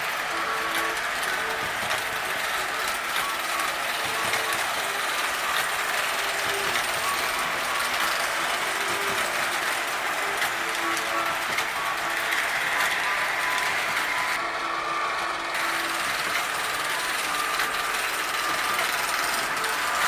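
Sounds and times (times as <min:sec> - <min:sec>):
toy train motors whirring: 0:00.0 - 0:20.0.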